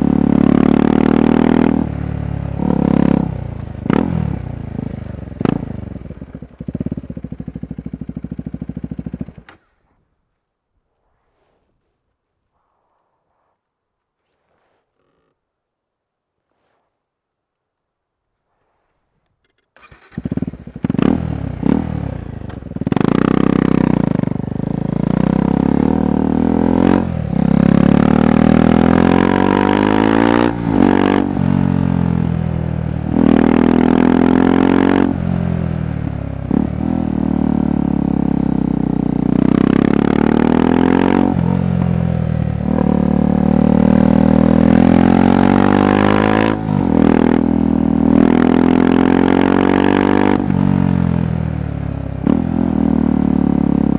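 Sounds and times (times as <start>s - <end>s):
motorcycle engine pulling hard: 0.0s - 10.0s, 19.5s - 53.9s.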